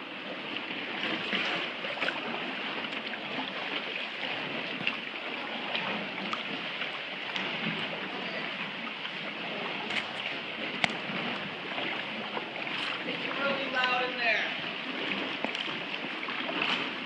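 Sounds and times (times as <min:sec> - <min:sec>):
paddle drips and ticks: 0:00.0 - 0:17.0
water trickling and splashing: 0:00.0 - 0:17.0.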